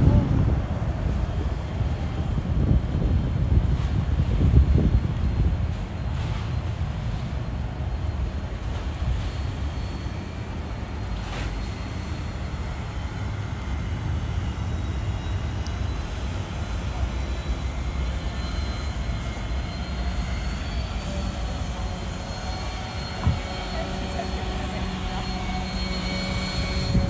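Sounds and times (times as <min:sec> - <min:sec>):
jet engine rumble: 0:00.0 - 0:27.0
faint high whine: 0:03.0 - 0:27.0.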